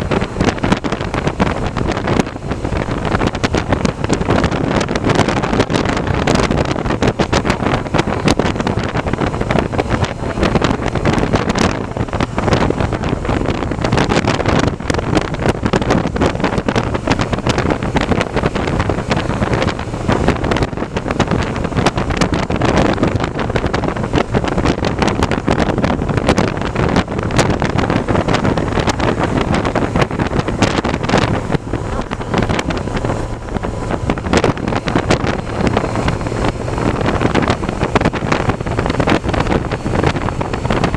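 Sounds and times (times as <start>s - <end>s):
low rumble: 0.0s - 40.9s
wind buffeting microphone: 0.0s - 40.9s.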